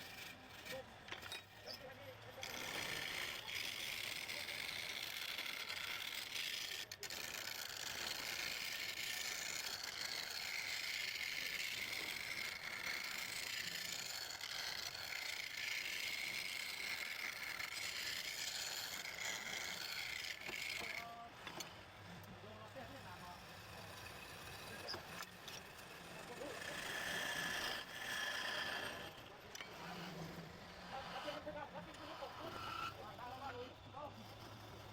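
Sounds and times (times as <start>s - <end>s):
lathe tool cutting spinning wood: 0.0s - 34.9s.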